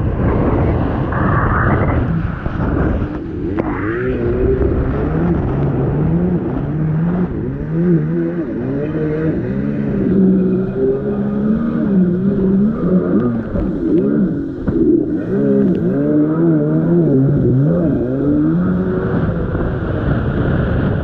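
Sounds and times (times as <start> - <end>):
rush of wind and water: 0.0 - 21.0
jet ski engine revving: 0.2 - 21.0.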